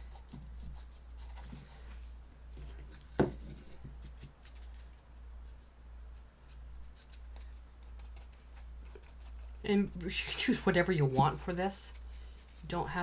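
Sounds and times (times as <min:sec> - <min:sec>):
low steady hum: 0:00.0 - 0:13.0
paintbrush strokes on canvas: 0:00.0 - 0:13.0.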